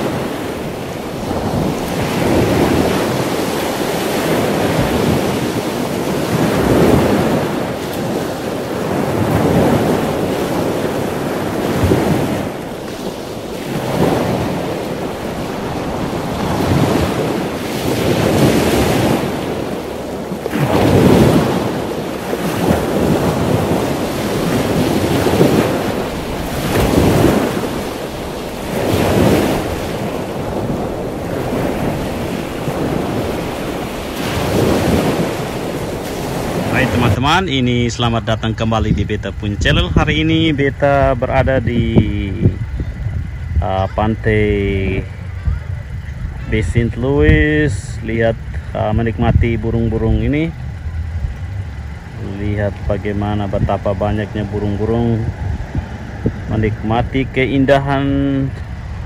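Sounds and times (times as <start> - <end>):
small waves washing on shore: 0.0 - 59.0
wind on microphone: 0.0 - 59.0.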